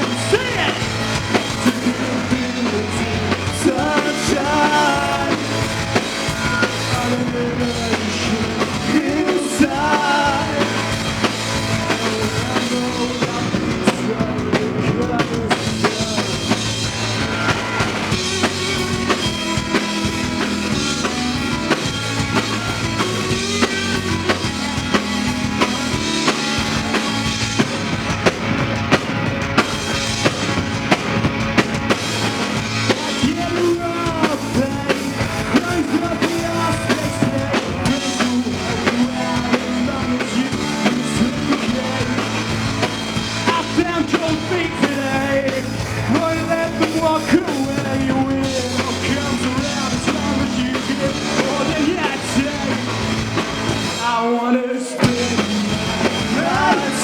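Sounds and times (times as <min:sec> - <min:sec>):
drum kit beat: 0:00.0 - 0:54.2, 0:55.0 - 0:57.0
live rock band playing: 0:00.0 - 0:57.0.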